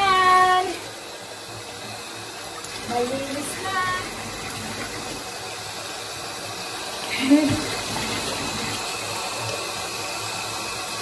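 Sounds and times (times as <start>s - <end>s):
water running into bathtub: 0.0s - 11.0s.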